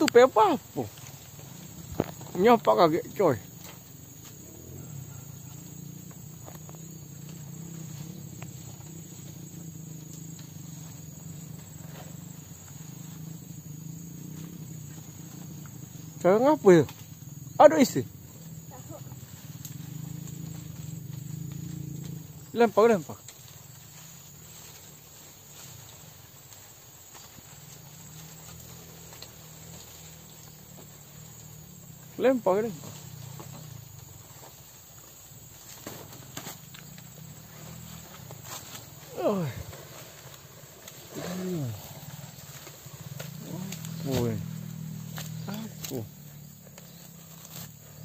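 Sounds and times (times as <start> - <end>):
insects trilling: 0.0 - 48.0.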